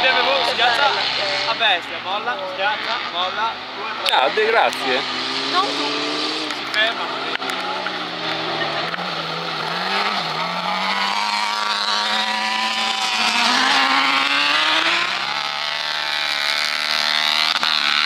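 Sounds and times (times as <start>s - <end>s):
buggy engines racing: 0.0s - 18.0s.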